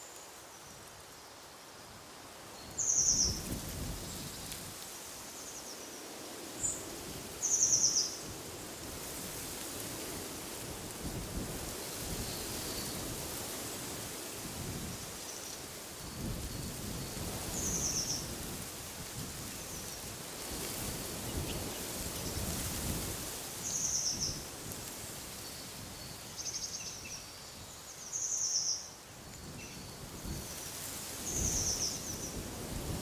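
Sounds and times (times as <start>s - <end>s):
wind blowing in gusts: 1.9s - 28.0s, 29.0s - 33.0s.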